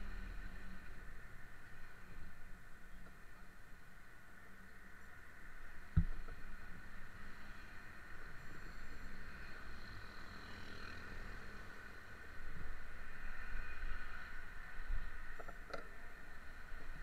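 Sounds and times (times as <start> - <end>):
passing cars and motorcycles: 0.0 - 17.0.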